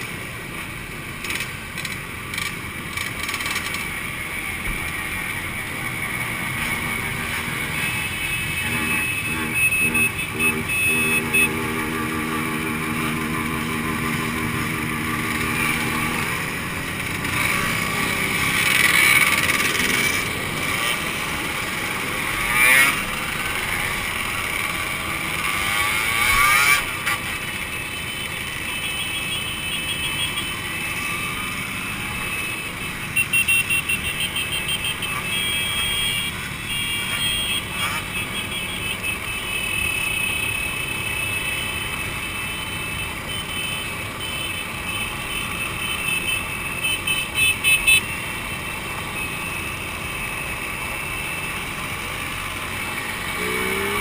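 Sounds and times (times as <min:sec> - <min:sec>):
two-stroke motorcycle engines revving: 0:00.0 - 0:54.0.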